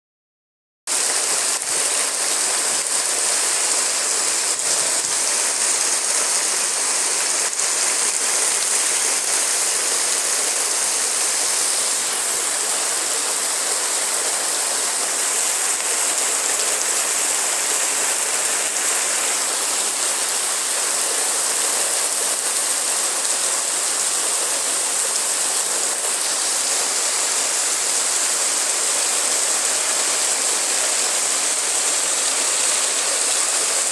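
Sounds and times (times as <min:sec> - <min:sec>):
heavy rain pouring: 0:00.9 - 0:33.9.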